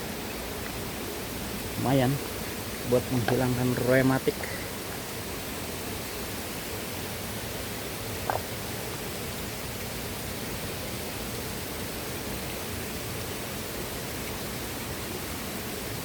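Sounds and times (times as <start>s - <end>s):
rushing flowing water: 0.0s - 16.0s.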